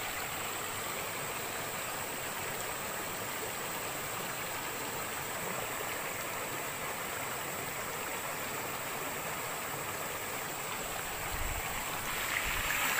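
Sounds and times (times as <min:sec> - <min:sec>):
water rushing over rapids: 0:00.0 - 0:12.9.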